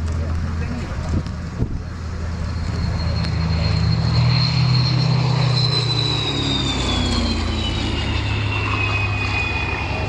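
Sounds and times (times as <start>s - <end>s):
propeller plane engine flying past: 0.0s - 10.0s.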